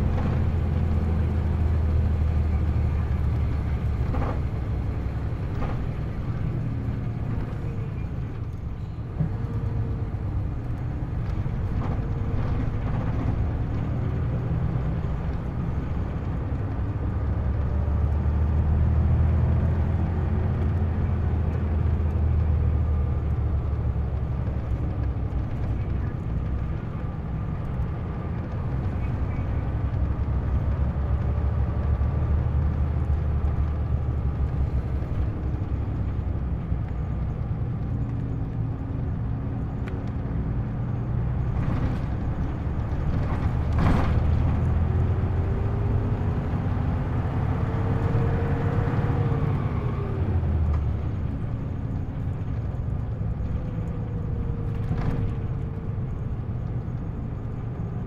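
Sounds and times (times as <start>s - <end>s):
bus engine revving: 0.0s - 58.0s.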